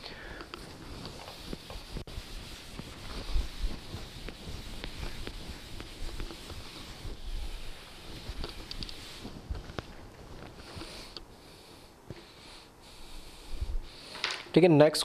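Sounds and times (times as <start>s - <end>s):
duster scrubbing chalkboard: 0.3s - 12.4s.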